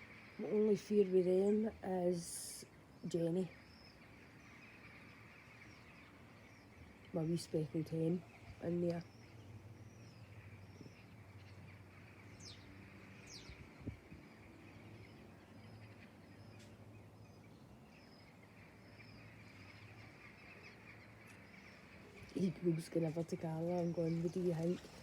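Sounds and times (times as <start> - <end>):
distant birds chirping: 0.0 - 25.0
low steady hum: 0.0 - 25.0.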